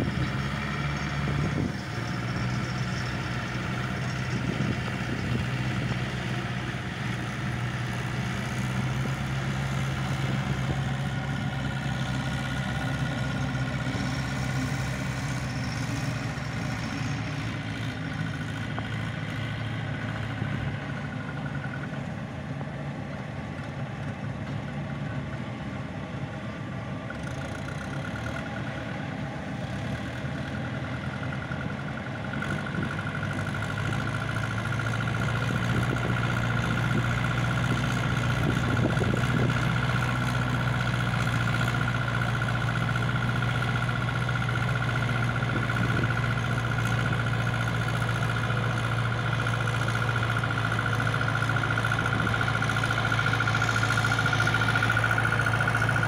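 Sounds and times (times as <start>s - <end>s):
tractor diesel engine drone: 0.0s - 56.0s.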